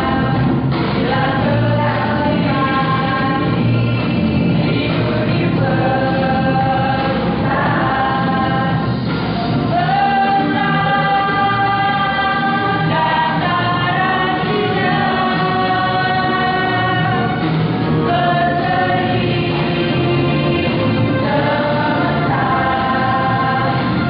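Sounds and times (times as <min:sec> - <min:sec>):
choir singing long notes: 0:00.0 - 0:24.0.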